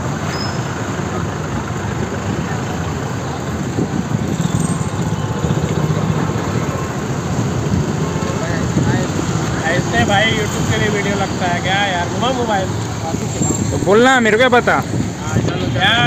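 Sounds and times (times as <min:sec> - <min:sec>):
traffic engines: 0:00.0 - 0:16.0.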